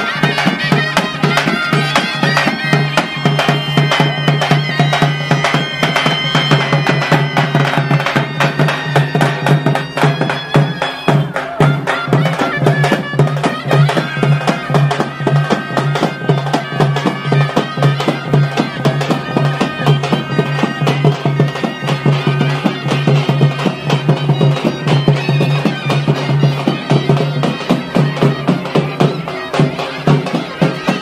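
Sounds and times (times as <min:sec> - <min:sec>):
frame drums beaten with sticks: 0:00.0 - 0:31.0
reedy pipe melody: 0:00.0 - 0:31.0.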